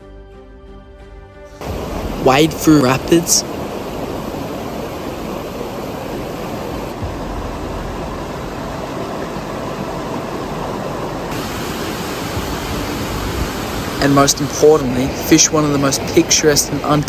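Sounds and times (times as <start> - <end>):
creek water rushing over rapids: 1.6 - 17.0.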